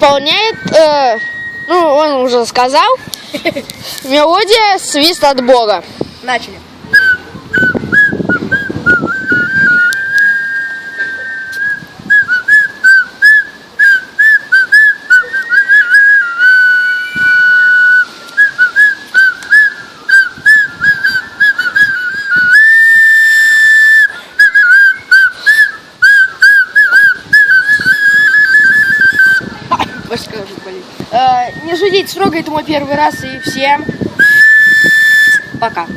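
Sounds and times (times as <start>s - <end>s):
man whistling a tune: 0.4s - 2.2s, 6.9s - 30.7s, 31.3s - 35.9s.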